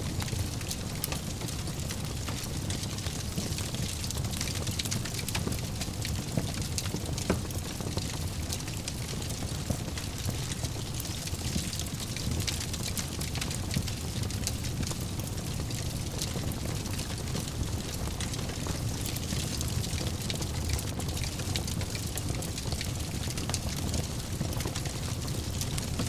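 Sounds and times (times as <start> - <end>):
fire flames rumbling: 0.0 - 26.0
wood fire crackling: 0.0 - 26.0.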